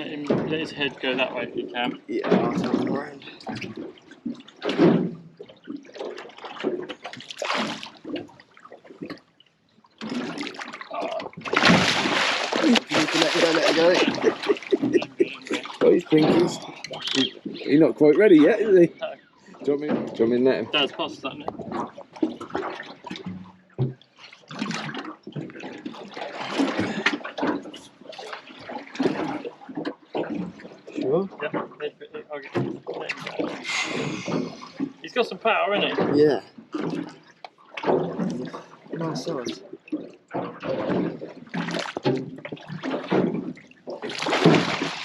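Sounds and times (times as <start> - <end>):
water splashing beside a boat: 0.0 - 45.0.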